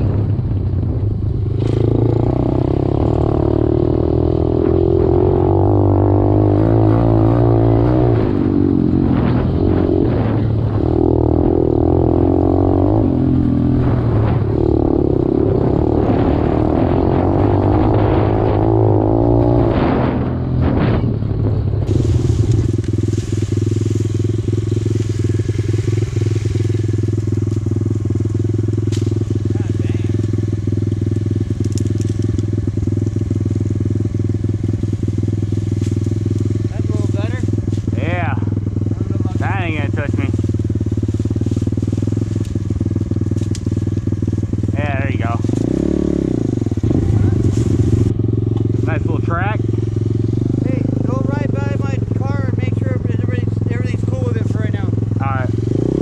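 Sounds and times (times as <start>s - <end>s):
dirt bike engine revving: 1.4s - 56.0s.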